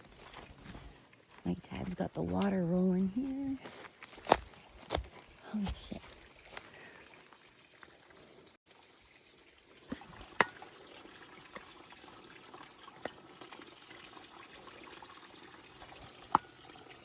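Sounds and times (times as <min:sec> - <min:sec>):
pumped water trickling: 0:01.9 - 0:17.0.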